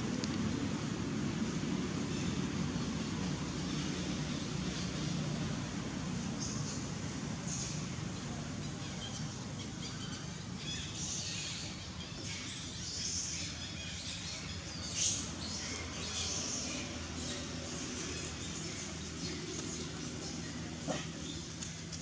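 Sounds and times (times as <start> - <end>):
birds chirping: 2.0 - 22.0.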